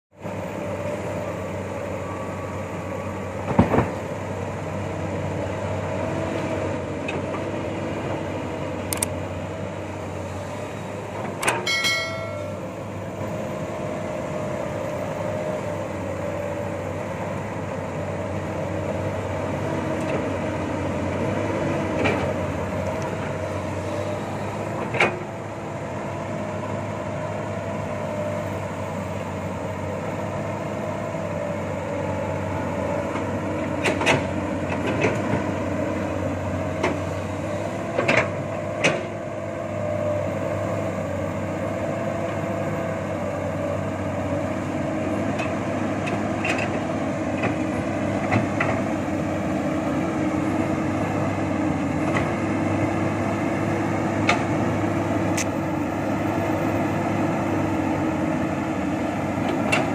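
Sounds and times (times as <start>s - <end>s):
excavator engine running: 0.2s - 59.9s.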